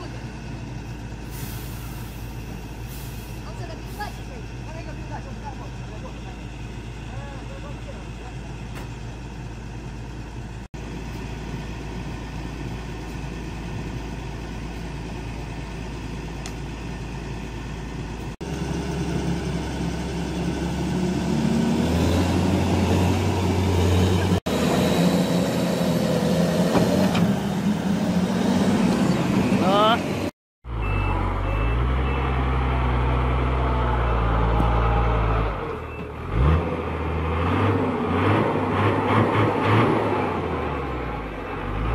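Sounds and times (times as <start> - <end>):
heavy diesel engines: 0.0 - 41.9.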